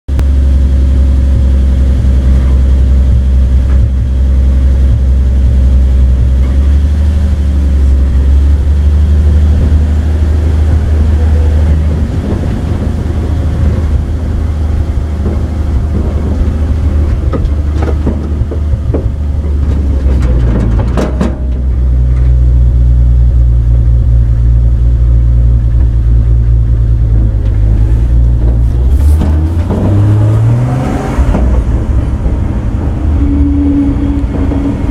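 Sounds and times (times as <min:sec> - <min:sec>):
truck engine and road hum: 0:00.1 - 0:34.9
knocks and rattles: 0:01.2 - 0:22.7, 0:25.4 - 0:34.9.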